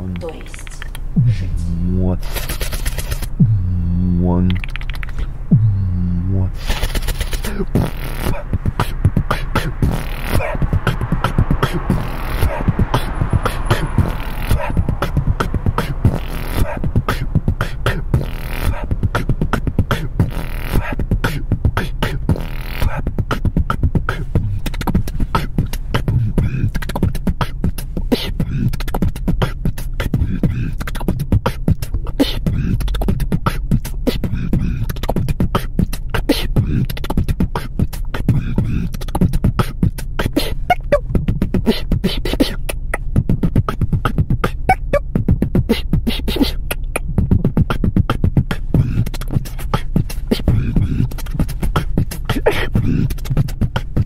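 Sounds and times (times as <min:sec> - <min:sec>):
beatboxing clicks and beats: 0:00.0 - 0:54.0
low bass: 0:00.0 - 0:54.0.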